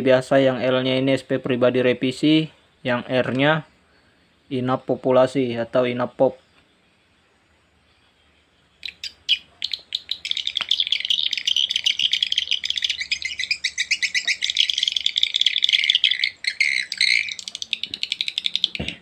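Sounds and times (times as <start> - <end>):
high twittering bird chirps: 0.0 - 19.0.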